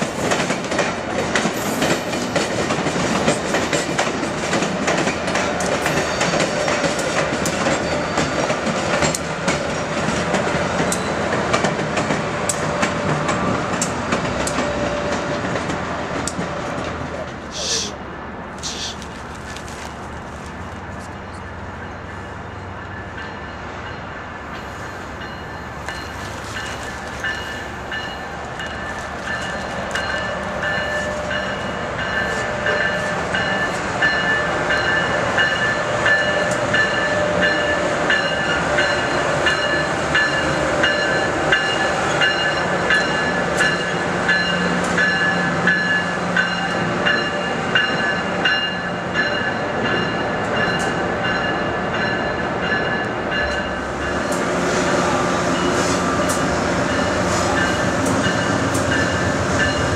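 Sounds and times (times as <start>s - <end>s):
train running on rails: 0.0s - 59.9s.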